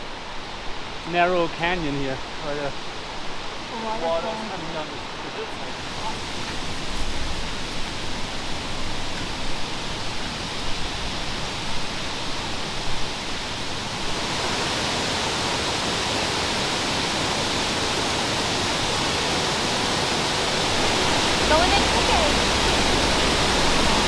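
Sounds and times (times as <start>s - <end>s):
water cascading down hillside: 0.0s - 24.0s.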